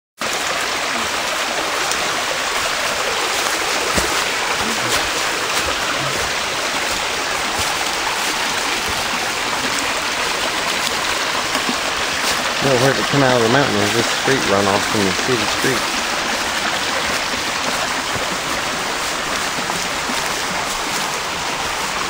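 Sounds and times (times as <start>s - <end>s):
creek running over rocks: 0.2s - 22.0s.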